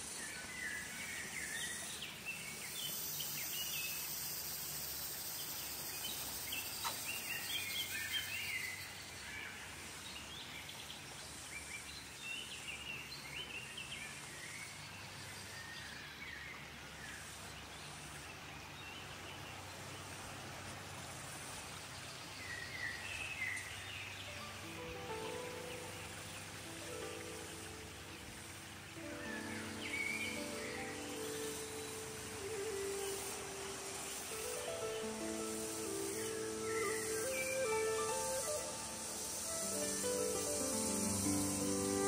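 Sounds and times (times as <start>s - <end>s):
small birds chirping: 0.0s - 20.2s, 21.4s - 42.0s
steady background hiss: 0.0s - 42.0s.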